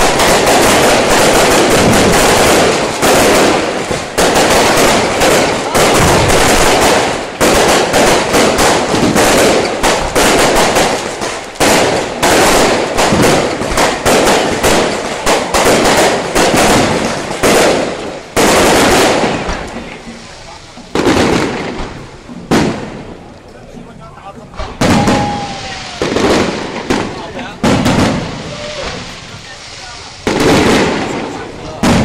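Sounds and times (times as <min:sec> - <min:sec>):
firecrackers crackling: 0:00.0 - 0:32.0.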